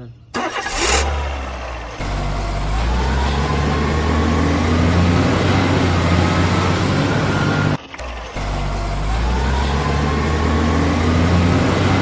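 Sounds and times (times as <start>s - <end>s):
truck engine humming with whine: 0.0s - 12.0s.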